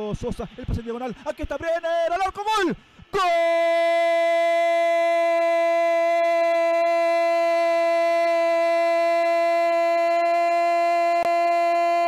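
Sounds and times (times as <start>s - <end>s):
male commentator's long goal cry: 1.6s - 12.0s.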